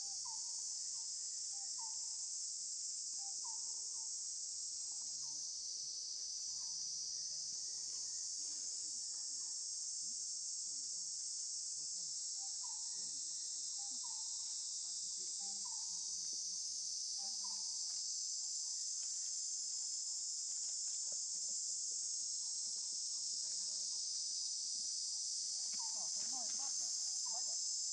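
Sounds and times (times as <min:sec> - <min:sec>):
insect chorus: 0:00.0 - 0:27.9.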